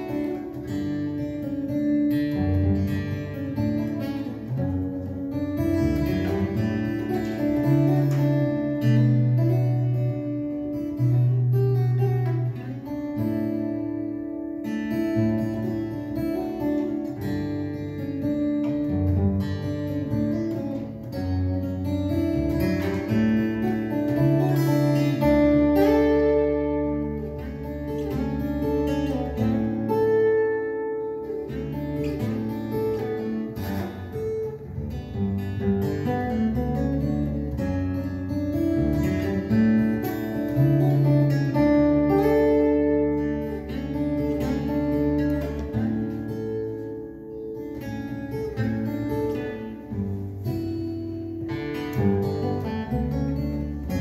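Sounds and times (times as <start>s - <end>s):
fingerstyle acoustic guitar: 0.0s - 54.0s.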